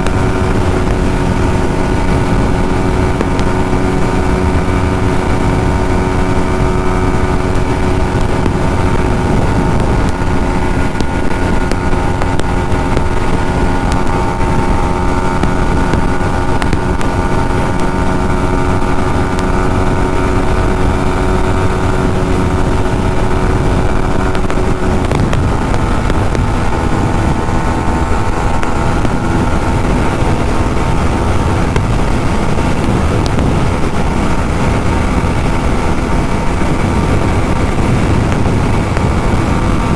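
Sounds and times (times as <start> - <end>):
motorcycle engine at high revs: 0.0 - 39.9
wind rushing over microphone: 0.0 - 39.9.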